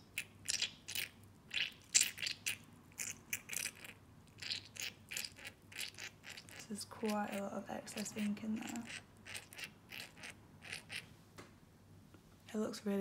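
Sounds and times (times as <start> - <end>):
plastic pipette squeezed crinkling: 0.0 - 11.1.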